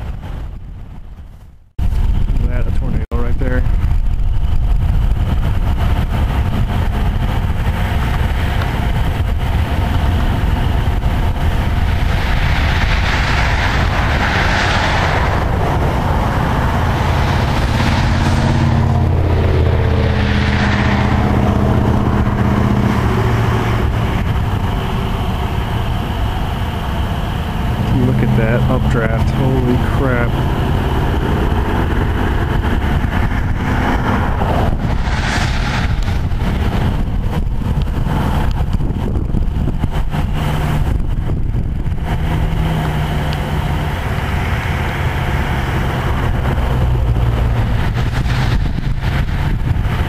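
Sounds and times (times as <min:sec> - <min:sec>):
engine hum: 0:00.0 - 0:50.0
vehicles passing: 0:00.0 - 0:50.0
wind rumble on microphone: 0:00.0 - 0:50.0.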